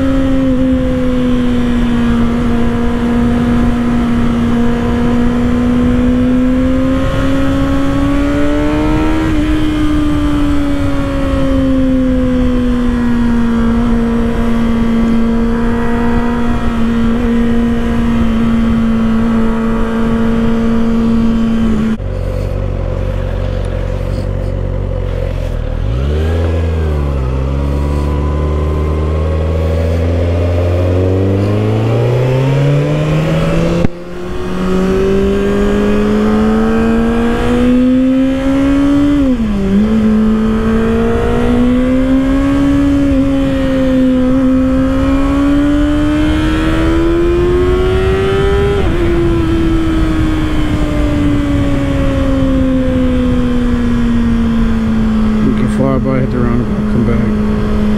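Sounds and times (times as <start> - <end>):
motorcycle engine revving: 0.0 - 57.9
wind noise: 0.0 - 57.9.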